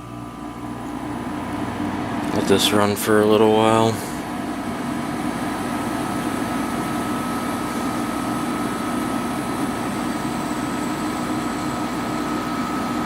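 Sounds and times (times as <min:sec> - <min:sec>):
window air conditioner running: 0:00.0 - 0:13.0.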